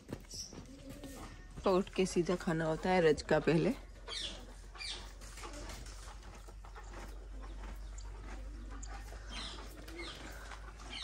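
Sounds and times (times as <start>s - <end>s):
horse chewing fodder: 0.0s - 11.0s
small birds chirping: 0.1s - 11.0s.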